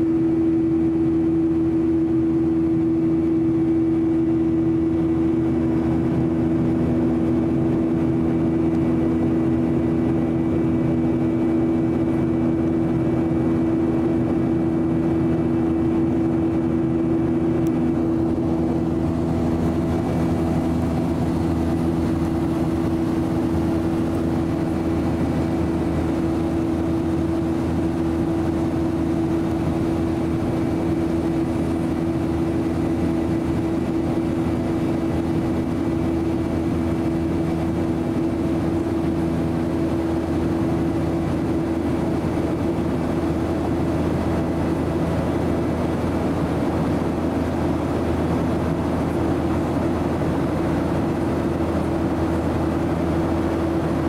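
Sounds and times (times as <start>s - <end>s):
aircraft cabin engine drone: 0.0s - 54.0s
low two-pitch hum: 0.0s - 54.0s.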